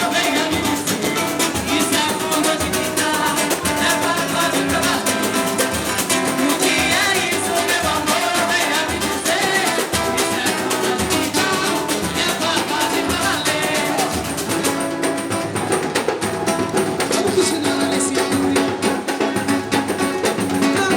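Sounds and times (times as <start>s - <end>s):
samba band percussion: 0.0s - 20.9s.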